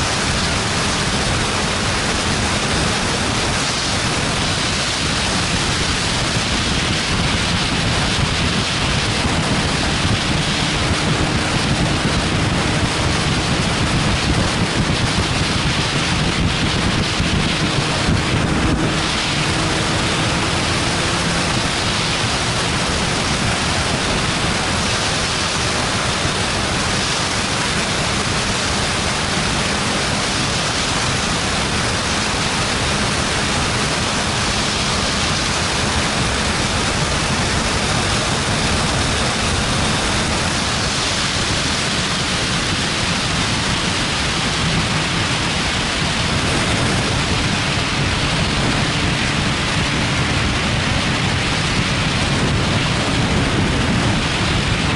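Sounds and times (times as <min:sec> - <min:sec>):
faint motorcycle engine drone: 0:00.0 - 0:54.9
wind buffeting microphone: 0:00.0 - 0:54.9.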